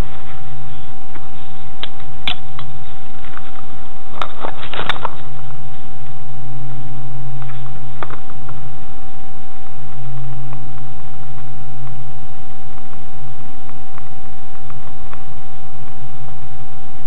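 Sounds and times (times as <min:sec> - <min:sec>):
steady electrical hum: 0:00.0 - 0:17.0
thin high whine: 0:00.0 - 0:17.0.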